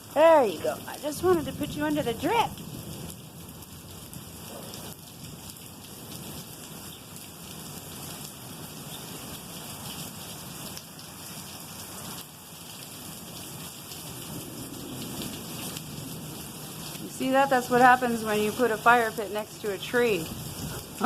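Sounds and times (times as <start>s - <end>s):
rain pattering on surfaces: 0.0s - 21.0s.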